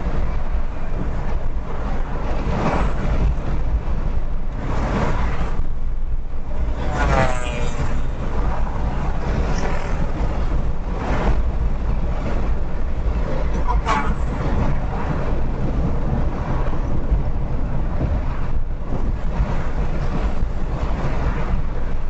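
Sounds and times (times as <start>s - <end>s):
road and wind noise: 0.0s - 22.0s
vehicles rushing past: 0.0s - 22.0s.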